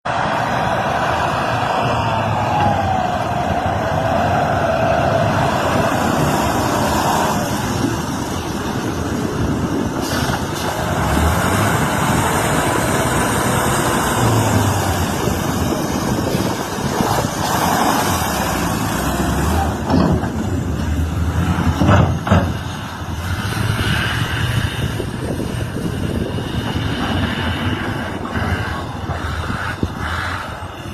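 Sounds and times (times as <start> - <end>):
diesel truck engines running hard: 0.0 - 30.9.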